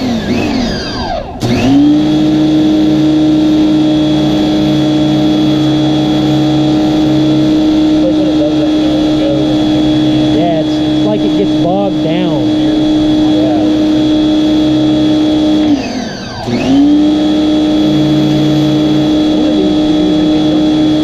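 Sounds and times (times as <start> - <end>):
pressure washer motor whining: 0.0 - 21.0.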